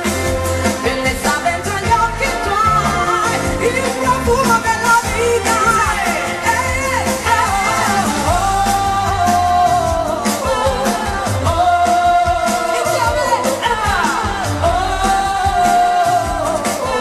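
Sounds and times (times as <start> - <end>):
bass and drum beat: 0.0 - 17.0
pop song with lead vocal: 0.0 - 17.0.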